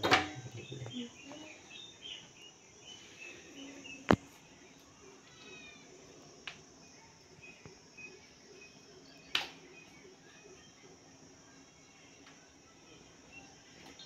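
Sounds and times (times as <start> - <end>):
faint high chirps: 0.3 - 14.0.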